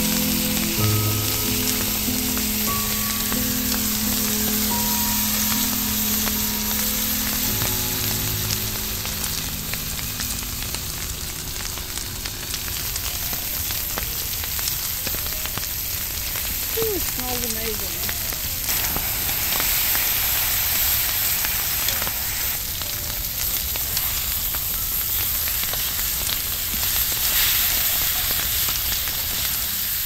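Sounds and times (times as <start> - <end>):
steak sizzling in a skillet: 0.0 - 30.0.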